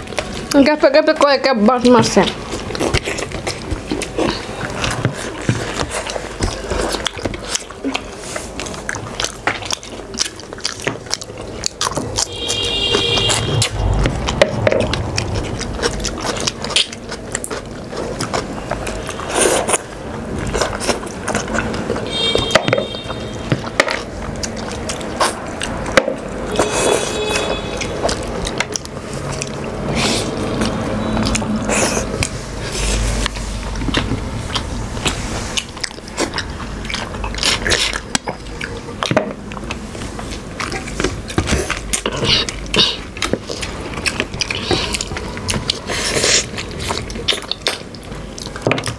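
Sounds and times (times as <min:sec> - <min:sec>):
person chewing food: 0:00.0 - 0:48.9.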